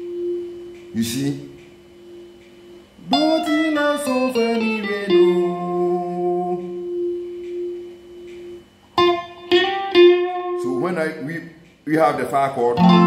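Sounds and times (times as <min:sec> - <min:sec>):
guitar notes: 0:00.0 - 0:02.4, 0:03.0 - 0:11.7, 0:12.7 - 0:13.0.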